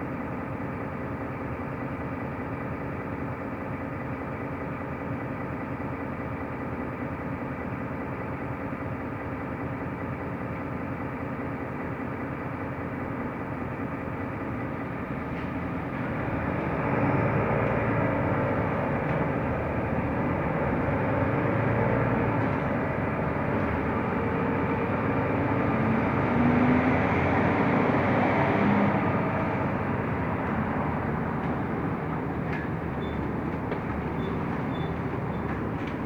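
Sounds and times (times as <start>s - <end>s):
bus engine running: 0.0s - 36.0s.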